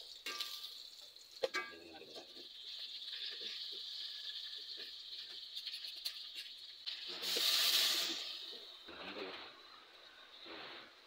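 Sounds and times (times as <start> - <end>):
hot oil sizzling: 0.0 - 11.0
water hissing in hot pot: 0.0 - 11.0.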